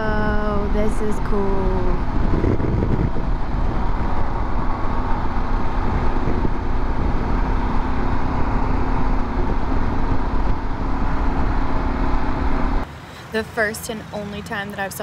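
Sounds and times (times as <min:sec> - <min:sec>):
motorcycle engine running: 0:00.0 - 0:12.8
constant low hum: 0:00.0 - 0:15.0
wind and road noise: 0:00.0 - 0:15.0.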